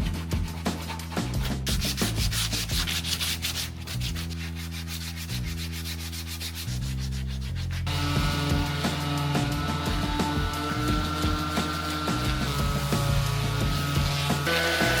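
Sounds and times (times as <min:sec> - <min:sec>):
sandpaper rubbing on wood: 0:00.0 - 0:15.0.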